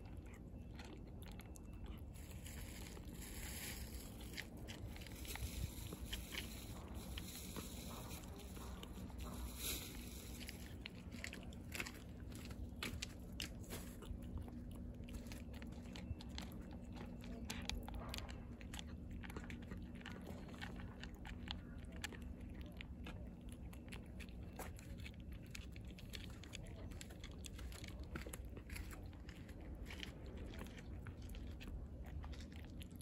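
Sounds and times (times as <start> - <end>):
cat crunching dry food: 0.0 - 33.0
faint low hum: 0.0 - 33.0.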